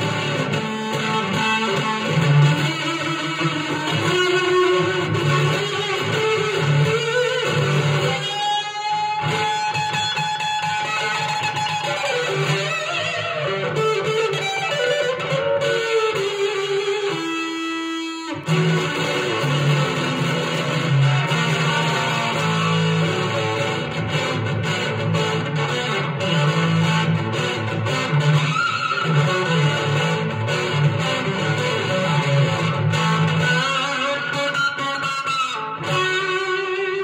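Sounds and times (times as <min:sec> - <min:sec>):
fuzz electric guitar lead: 0:00.0 - 0:37.0.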